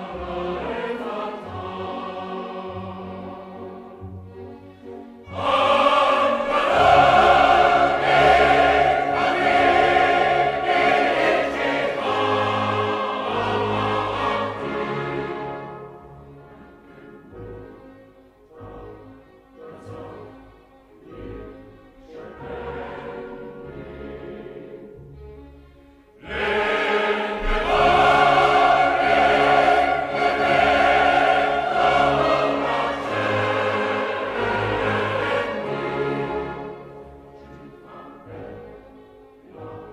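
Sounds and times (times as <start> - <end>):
choir singing classical music: 0.0 - 39.9.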